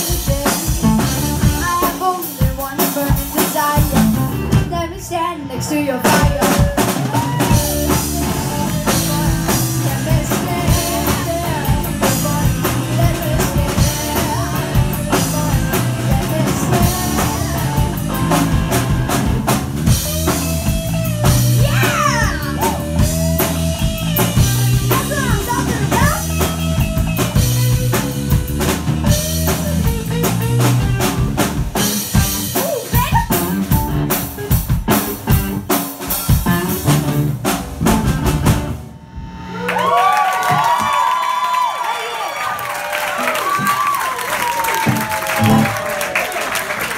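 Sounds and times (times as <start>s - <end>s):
electric guitar lead line: 0.0s - 40.0s, 44.8s - 45.9s
rock drum kit: 0.0s - 42.0s, 42.6s - 46.9s
live rock band: 0.0s - 46.9s.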